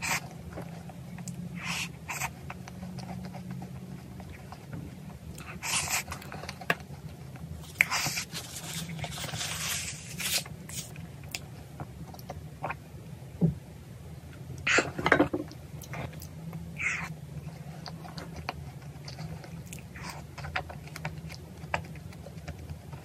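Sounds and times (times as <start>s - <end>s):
person chewing pastry: 0.0s - 12.8s, 15.8s - 23.0s
steady low hum: 0.0s - 23.0s.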